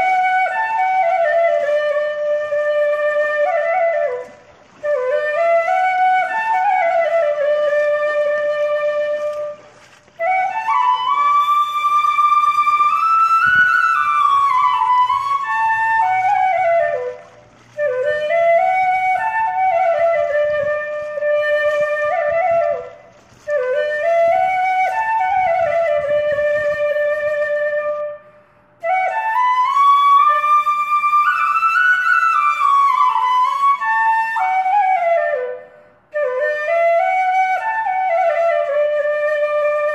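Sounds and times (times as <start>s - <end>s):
solo flute melody: 0.0s - 39.9s.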